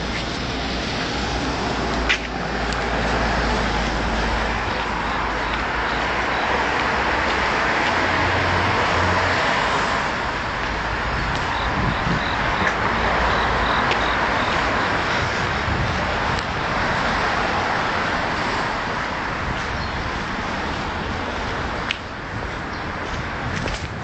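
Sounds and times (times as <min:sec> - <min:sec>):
city traffic noise: 0:00.0 - 0:24.0.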